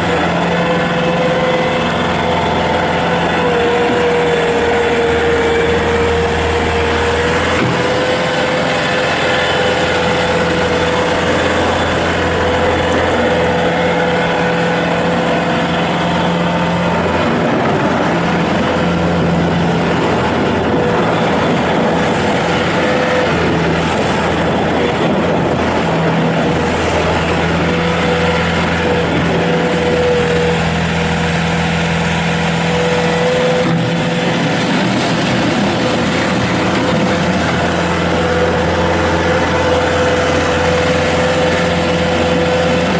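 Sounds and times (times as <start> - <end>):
diesel engine running: 0.0 - 42.9
steady whine: 0.0 - 42.9.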